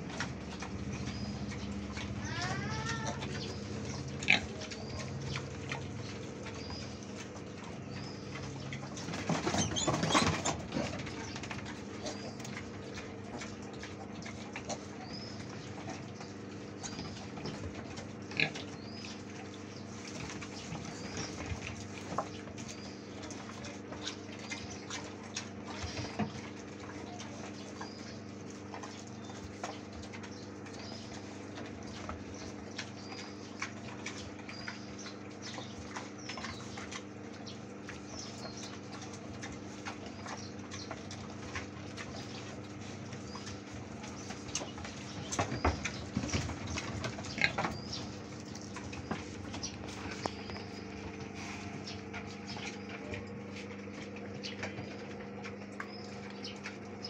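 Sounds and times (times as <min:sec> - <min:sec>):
pigs chewing and smacking: 0:00.0 - 0:57.0.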